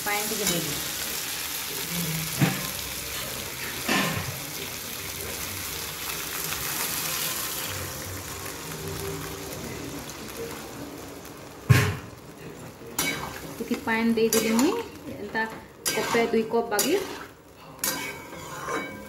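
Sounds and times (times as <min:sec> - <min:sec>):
potatoes frying in oil: 0:00.0 - 0:18.7
water sizzling in hot pan: 0:00.0 - 0:19.0.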